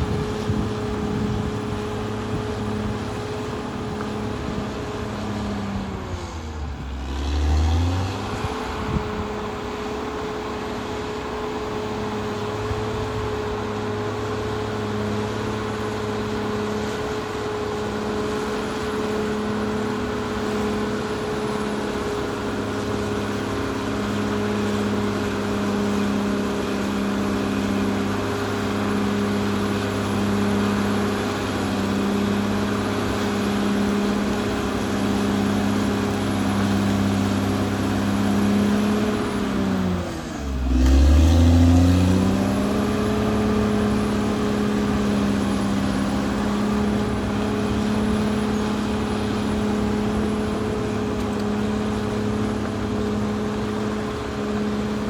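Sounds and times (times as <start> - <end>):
bulldozer diesel engine droning: 0.0 - 55.0
steady engine whine: 0.0 - 55.0.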